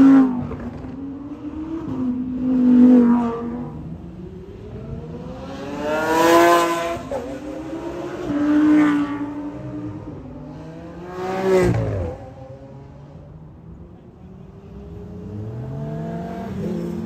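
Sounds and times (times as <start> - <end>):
supercar engines accelerating past: 0.0 - 13.5, 14.3 - 17.0.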